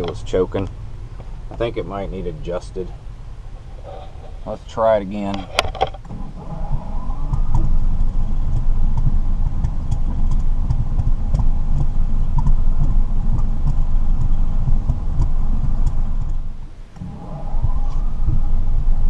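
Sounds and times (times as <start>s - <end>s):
generator engine cranking and running rough: 0.0s - 19.0s.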